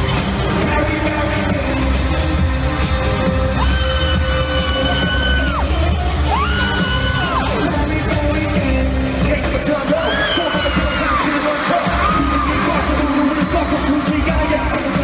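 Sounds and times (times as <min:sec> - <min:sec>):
pop music with singing: 0:00.0 - 0:15.0.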